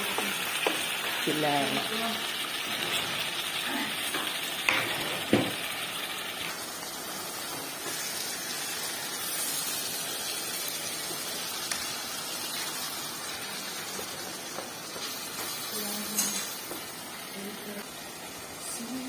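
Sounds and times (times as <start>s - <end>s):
vegetables sizzling in a saucepan: 0.0s - 19.0s.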